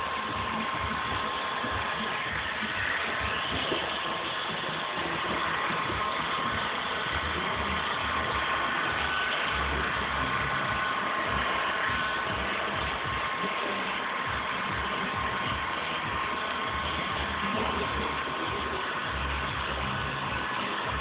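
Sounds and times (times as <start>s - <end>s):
heat gun blowing air: 0.0s - 21.0s.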